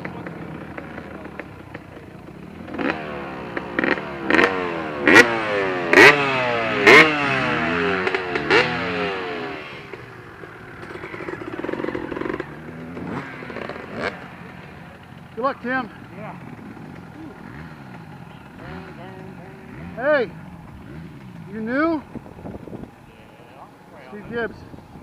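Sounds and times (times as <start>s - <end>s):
dirt bike engine revving: 0.0s - 25.0s
quieter engine droning: 0.0s - 25.0s.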